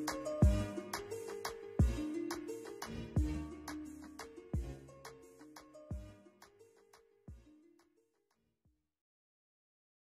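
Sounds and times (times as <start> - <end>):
faint background music: 0.0 - 8.3.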